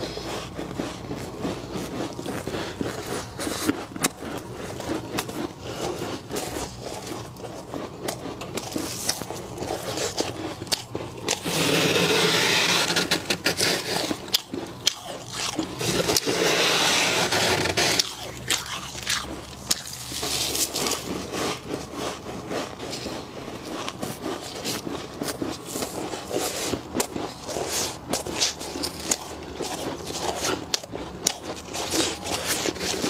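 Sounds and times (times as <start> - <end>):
gloves scraping frost: 0.0 - 33.0
ice crystals crunching: 6.4 - 33.0.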